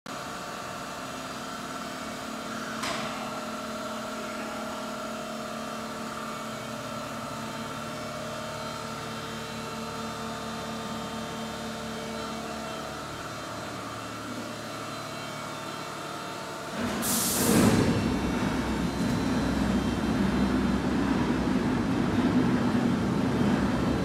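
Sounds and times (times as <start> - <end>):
milling machine electrical hum: 0.1 - 24.0.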